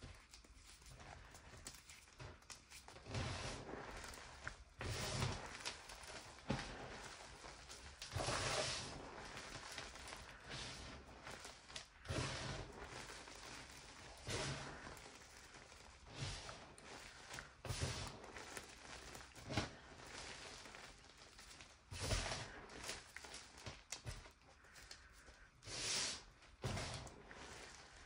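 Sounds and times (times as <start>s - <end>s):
hands crunching chalk: 0.0s - 28.0s
powdery rustling: 0.0s - 28.0s.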